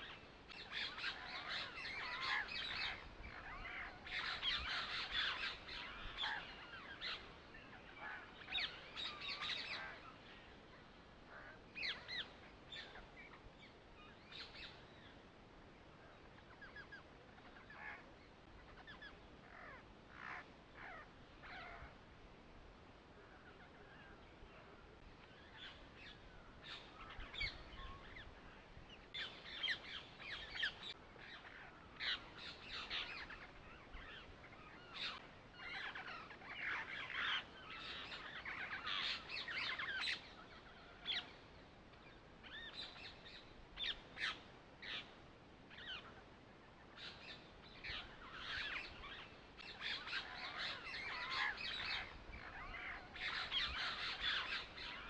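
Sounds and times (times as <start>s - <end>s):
birds chirping and calling: 0.0s - 15.3s, 16.1s - 22.0s, 23.2s - 55.0s.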